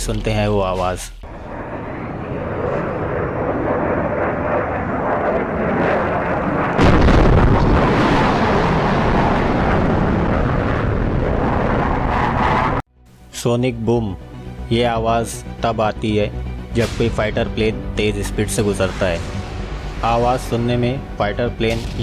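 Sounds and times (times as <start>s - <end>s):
deep rumble from the sky: 0.0s - 12.9s, 16.5s - 22.0s.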